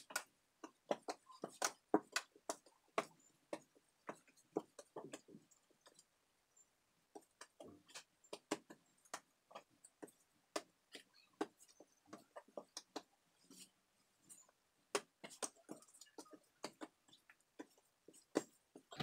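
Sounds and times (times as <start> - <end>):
hands patting dough on counter: 0.0 - 6.2, 7.1 - 13.7, 14.3 - 19.0.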